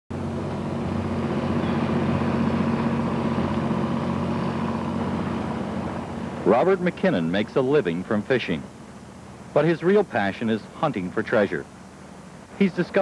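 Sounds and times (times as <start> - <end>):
boat engine running: 0.1 - 12.4.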